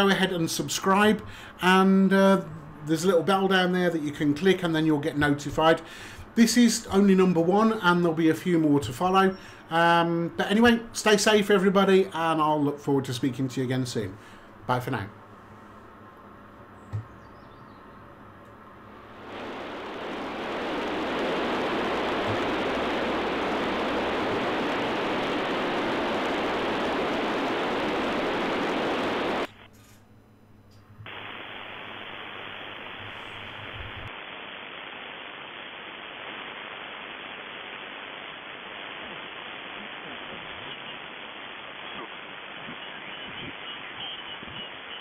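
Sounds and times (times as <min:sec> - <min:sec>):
radio static hiss: 0:00.0 - 0:16.0, 0:18.8 - 0:30.0, 0:31.0 - 0:45.0
quiet radio band noise: 0:00.0 - 0:45.0.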